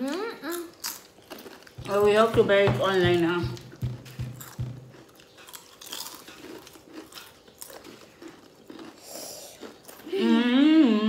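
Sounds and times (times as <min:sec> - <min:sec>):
chips being chewed: 0:00.0 - 0:02.2, 0:03.5 - 0:10.2.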